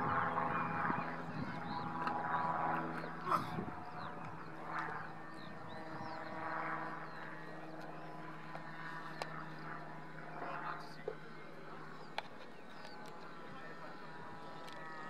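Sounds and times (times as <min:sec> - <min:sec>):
distant model aircraft droning: 0:00.0 - 0:15.0.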